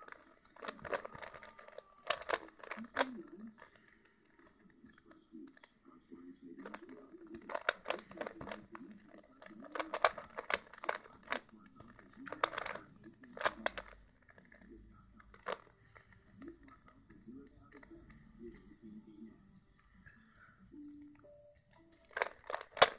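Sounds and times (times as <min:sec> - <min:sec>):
puzzle cube clicking: 0:00.0 - 0:05.8, 0:06.5 - 0:18.7, 0:20.8 - 0:22.9.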